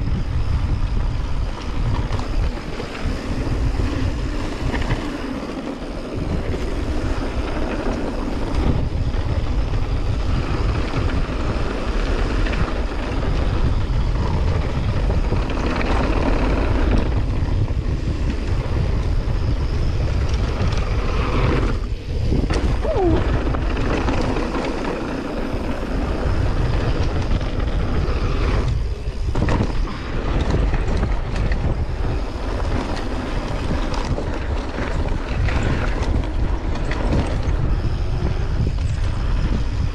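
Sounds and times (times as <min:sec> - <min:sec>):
bike tyres rumbling and rattling: 0:00.0 - 0:39.9
wind buffeting microphone: 0:00.0 - 0:39.9.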